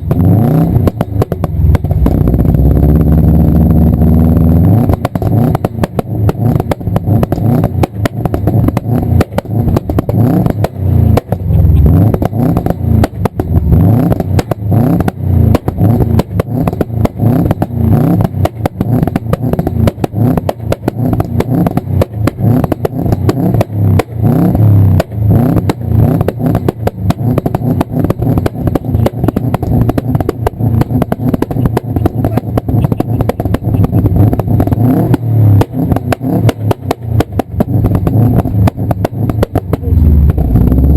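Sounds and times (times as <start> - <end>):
car engine running: 0.0 - 40.9
exhaust backfire pops and bangs: 0.0 - 40.9.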